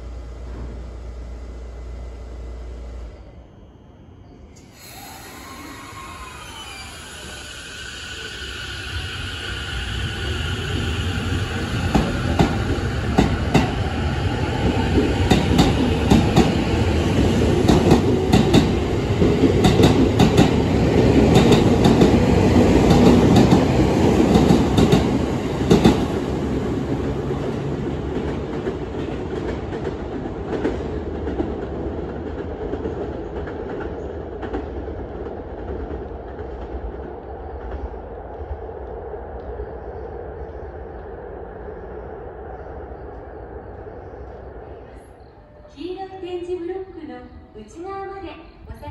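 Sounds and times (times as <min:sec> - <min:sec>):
electric train inverter whine: 0:00.0 - 0:31.5, 0:32.3 - 0:47.6.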